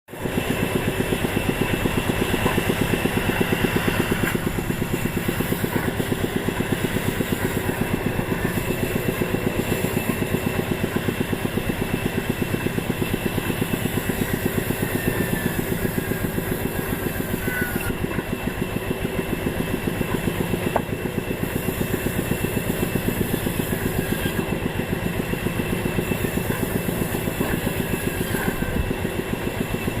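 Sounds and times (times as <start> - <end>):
wood-cutting machine engine running: 0.1 - 30.0.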